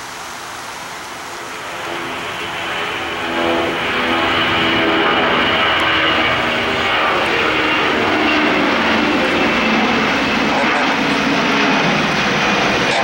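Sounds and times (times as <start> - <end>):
jet engine droning: 0.0 - 13.0.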